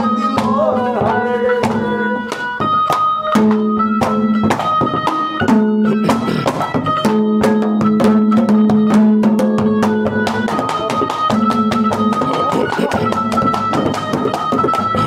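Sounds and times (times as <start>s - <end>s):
drum strokes: 0.0s - 15.0s
held melody notes: 0.0s - 15.0s.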